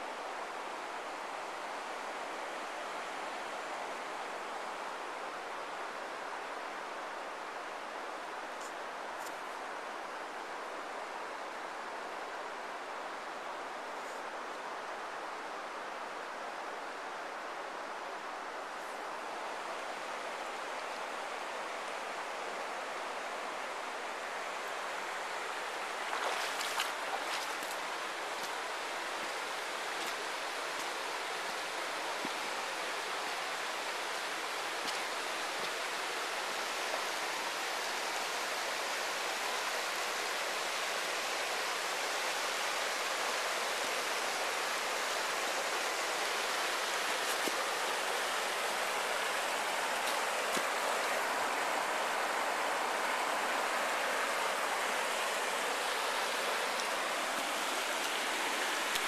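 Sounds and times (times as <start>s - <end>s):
river water running over stones: 0.0s - 59.0s.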